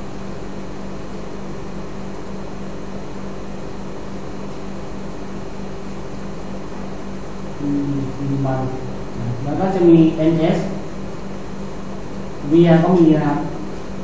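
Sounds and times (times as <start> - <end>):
low even hum: 0.0 - 14.0.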